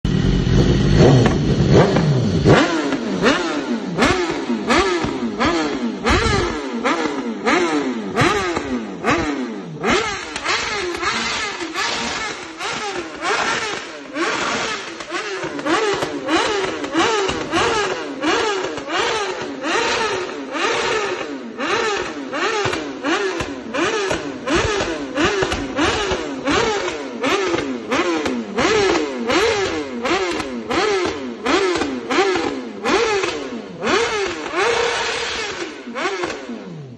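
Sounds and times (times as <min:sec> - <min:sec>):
motorcycle engine revving: 0:00.0 - 0:36.9
exhaust cracks: 0:00.1 - 0:36.9.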